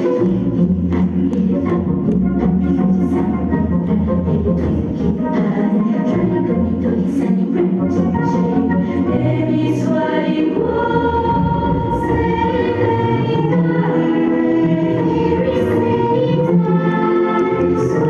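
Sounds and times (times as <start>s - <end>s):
choir singing held notes: 3.1s - 18.0s.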